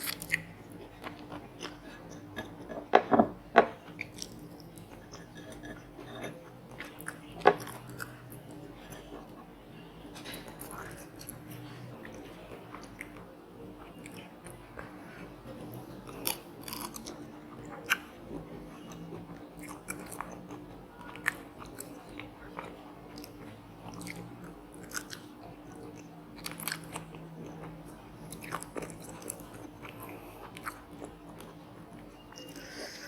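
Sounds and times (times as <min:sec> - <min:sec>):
person chewing crunchy food: 0:00.0 - 0:03.0, 0:03.8 - 0:09.4, 0:10.2 - 0:33.0.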